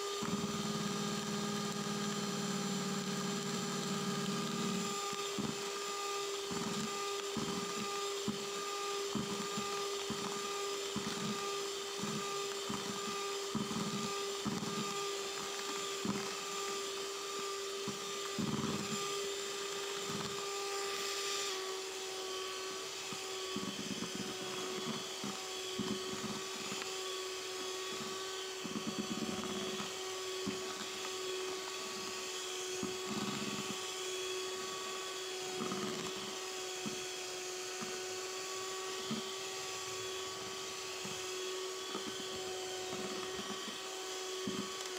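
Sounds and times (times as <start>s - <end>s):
electric hand mixer whining: 0.0s - 44.9s.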